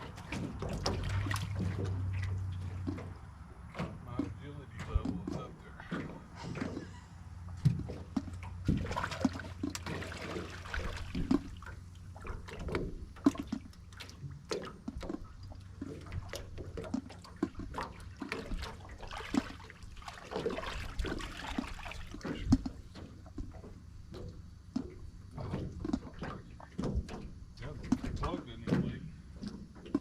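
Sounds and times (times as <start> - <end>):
water sloshing and splashing: 0.0 - 30.0.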